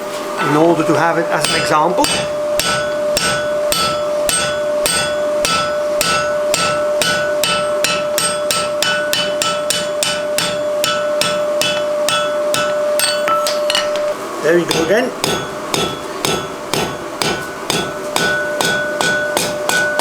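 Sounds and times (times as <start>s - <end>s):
anvil ringing: 1.4s - 20.0s
hammer striking steel on anvil: 1.4s - 20.0s.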